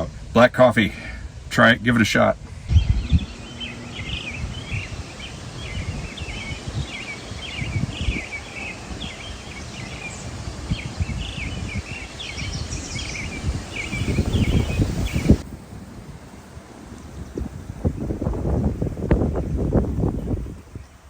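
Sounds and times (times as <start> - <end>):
wind buffeting microphone: 2.4 - 21.0
birds chirping: 2.5 - 21.0.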